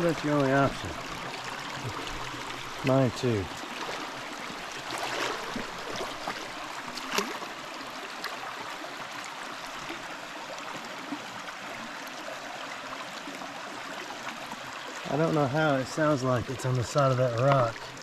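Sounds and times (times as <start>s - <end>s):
creek water babbling over rocks: 0.0s - 18.0s.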